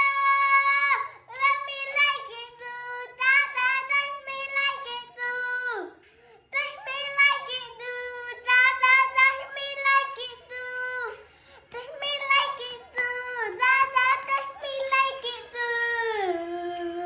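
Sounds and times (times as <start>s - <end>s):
boy singing in a high voice: 0.0s - 17.0s.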